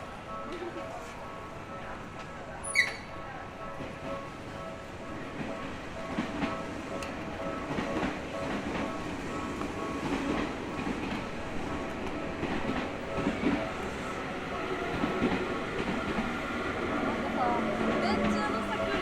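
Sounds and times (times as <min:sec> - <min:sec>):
train rumble: 0:00.0 - 0:19.0
train wheels clacking on rails: 0:00.0 - 0:19.0.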